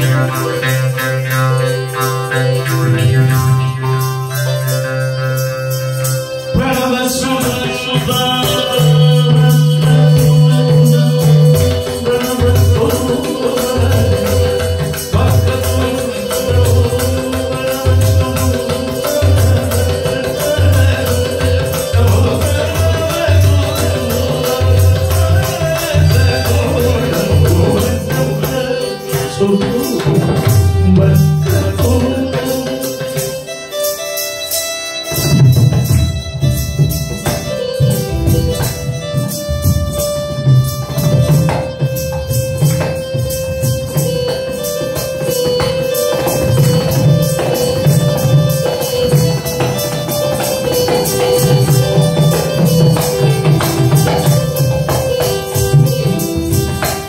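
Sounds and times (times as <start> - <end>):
jingle of small percussion: 0.0 - 57.0
keyboard sustained notes: 0.0 - 57.0
tabla and drum rhythm: 0.0 - 57.0.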